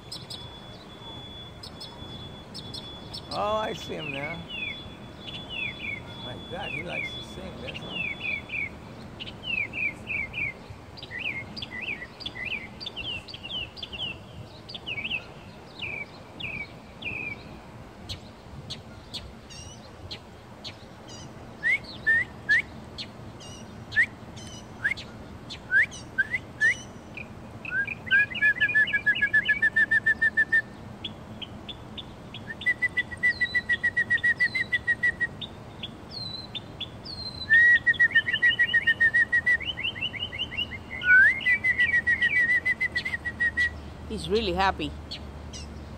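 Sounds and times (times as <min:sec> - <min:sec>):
songbird singing: 0:00.0 - 0:45.9.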